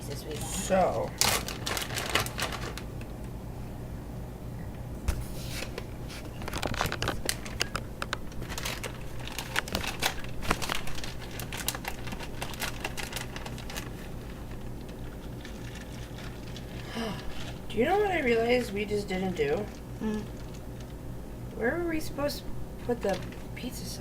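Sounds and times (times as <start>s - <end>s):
plastic bag crinkling: 0.0s - 3.1s, 5.2s - 24.0s
steady low hum: 0.0s - 24.0s.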